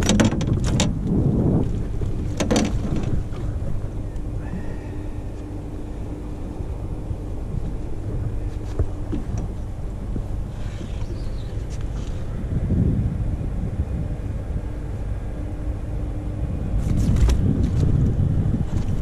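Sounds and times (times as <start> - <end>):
faint steady hum: 0.0 - 19.0
wind rumbling on microphone: 0.0 - 19.0.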